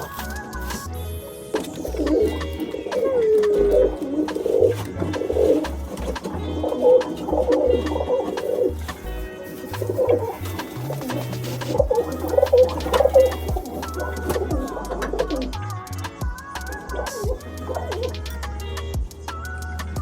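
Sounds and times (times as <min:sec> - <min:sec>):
music with stepping bass line: 0:00.0 - 0:20.0
pigeons cooing: 0:01.5 - 0:18.4.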